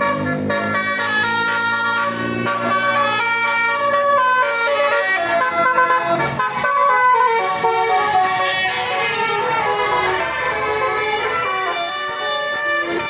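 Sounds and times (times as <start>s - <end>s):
musical air horn playing a tune: 0.0s - 13.0s.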